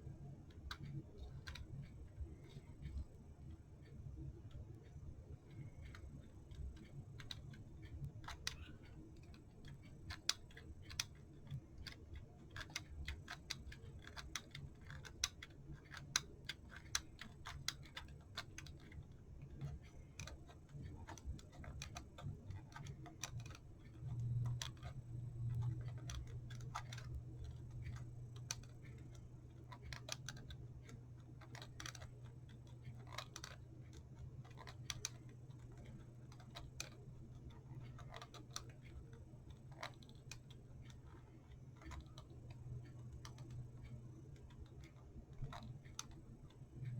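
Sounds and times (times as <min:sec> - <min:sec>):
low steady hum: 0:00.0 - 0:46.9.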